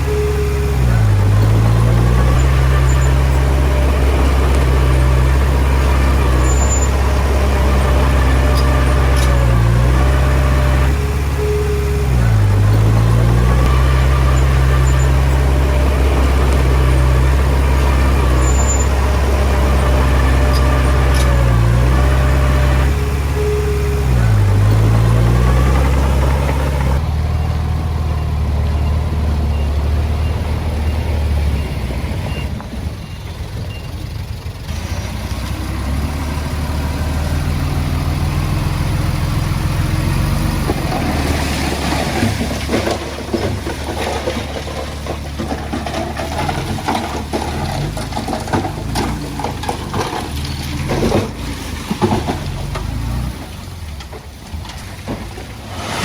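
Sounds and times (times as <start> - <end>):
diesel engine running hard: 0.0 - 56.0.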